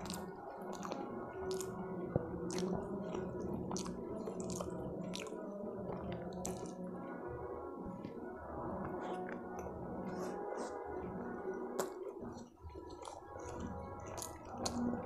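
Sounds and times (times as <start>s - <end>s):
chewing: 0.0s - 15.0s
wet squishing of eating by hand: 0.0s - 15.0s.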